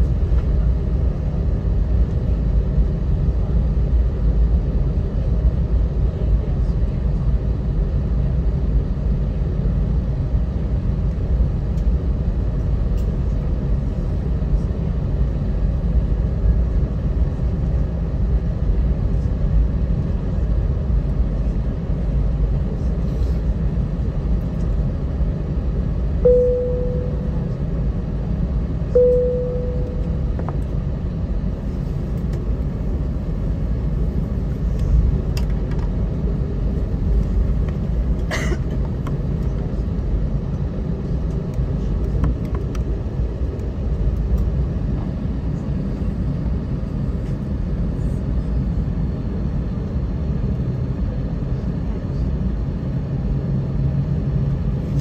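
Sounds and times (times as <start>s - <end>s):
jet engines idling rumble: 0.0s - 55.0s.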